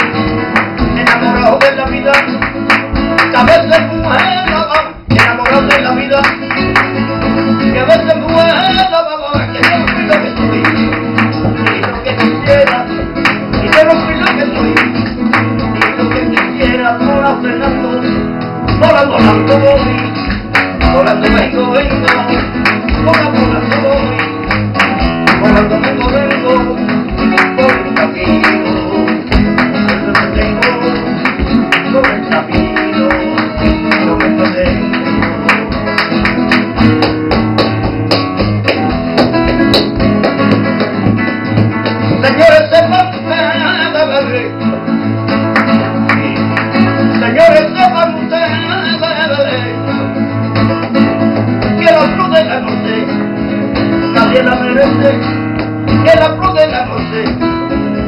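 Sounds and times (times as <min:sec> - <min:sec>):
flamenco guitar playing: 0:00.0 - 0:58.0
rhythmic hand-clapping: 0:00.0 - 0:58.0.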